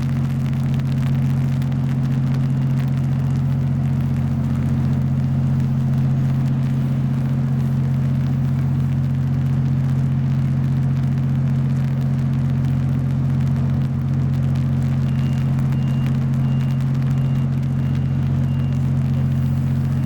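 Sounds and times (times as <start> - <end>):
low engine drone: 0.0 - 20.0.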